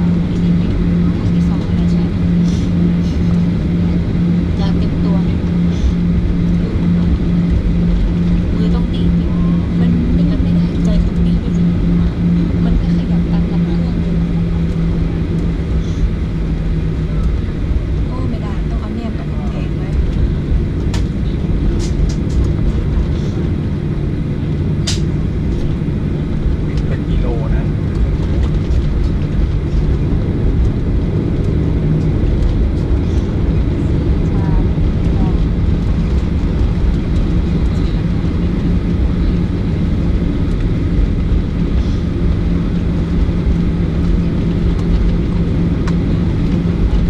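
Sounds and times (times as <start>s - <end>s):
airliner cabin low rumble: 0.0s - 47.0s.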